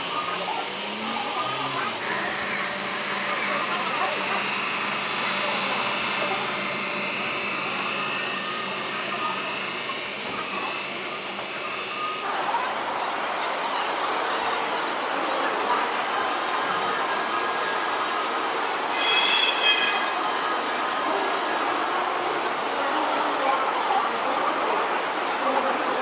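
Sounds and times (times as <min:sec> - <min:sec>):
model truck whirring: 0:00.0 - 0:26.0.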